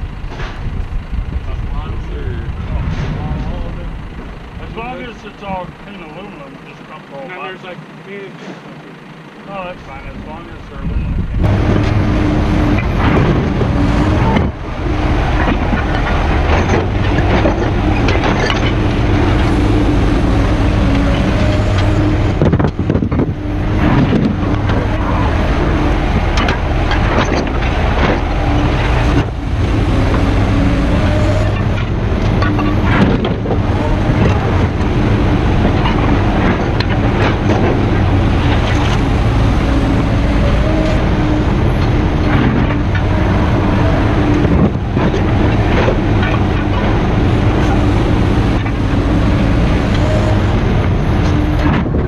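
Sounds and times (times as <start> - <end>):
metal clanks and rattles: 0.0 - 6.8, 12.7 - 14.6, 15.2 - 52.0
heavy engine running: 0.0 - 52.0.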